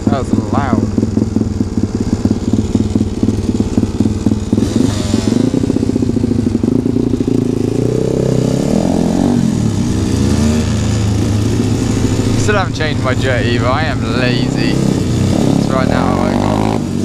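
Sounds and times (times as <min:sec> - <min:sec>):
motorcycle engines idling and revving: 0:00.0 - 0:17.0.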